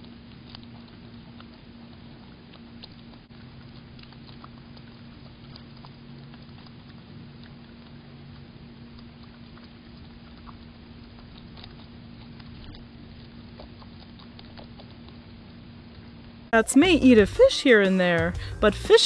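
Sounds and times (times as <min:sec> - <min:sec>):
animals chewing clicks: 0:00.0 - 0:16.5
low steady hum: 0:00.0 - 0:19.0.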